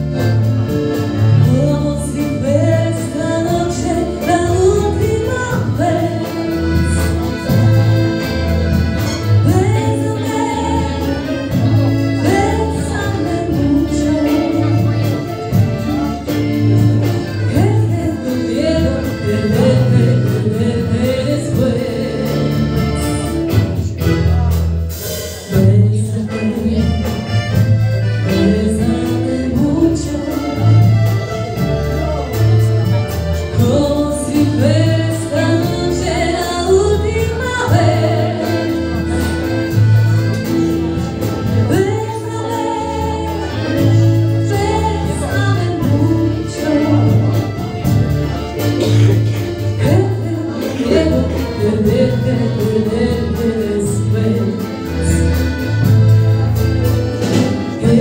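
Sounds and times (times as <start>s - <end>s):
instrumental backing with bass beat: 0.0s - 58.0s.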